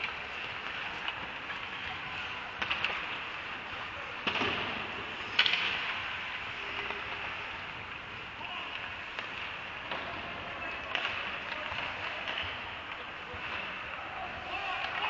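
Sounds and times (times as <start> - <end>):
sharp clacks of stick or puck: 0.0 - 15.0.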